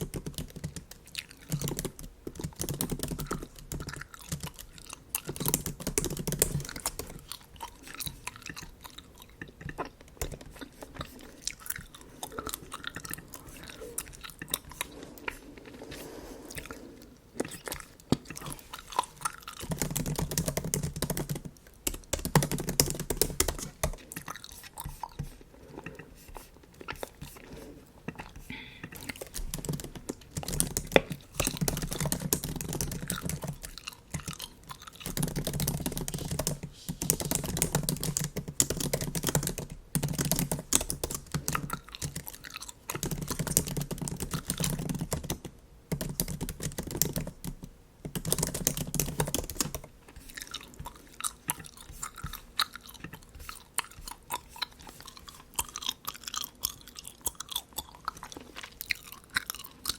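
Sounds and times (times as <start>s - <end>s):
wet gum chewing: 0.0s - 20.4s, 21.1s - 39.3s, 40.5s - 44.8s, 48.2s - 59.9s.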